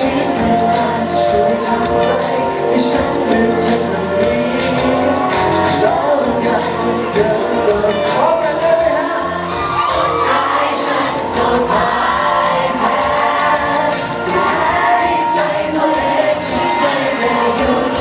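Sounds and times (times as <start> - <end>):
man singing into microphone: 0.0 - 18.0
pop backing music: 0.0 - 18.0.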